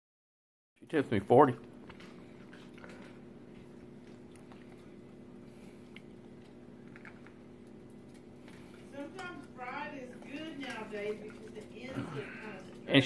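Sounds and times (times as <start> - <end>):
steady low hum: 0.8 - 13.0.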